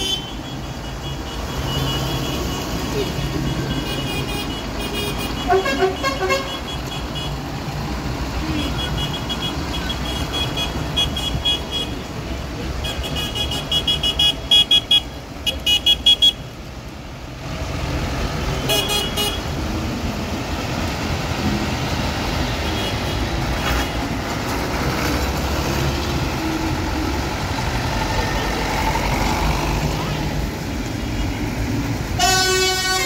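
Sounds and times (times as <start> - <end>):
tractor diesel engines rumbling: 0.0 - 33.0.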